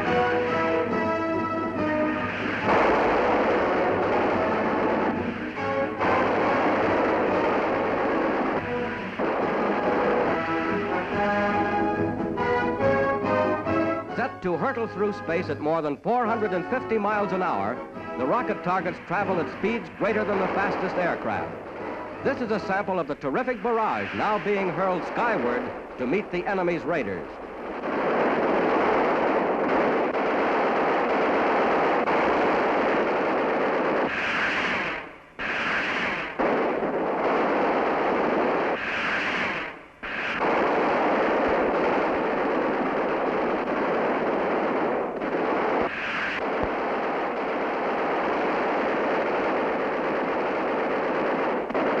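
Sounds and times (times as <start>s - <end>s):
anti-aircraft guns firing: 0.0s - 52.0s.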